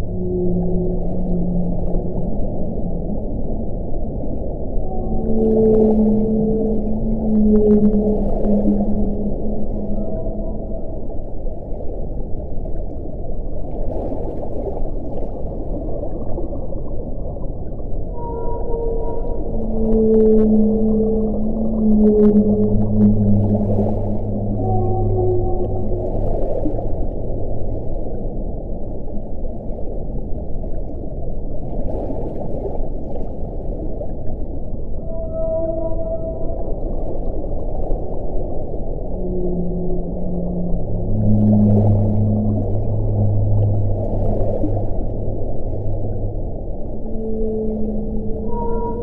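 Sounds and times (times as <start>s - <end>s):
wind low rumble: 0.0s - 49.0s.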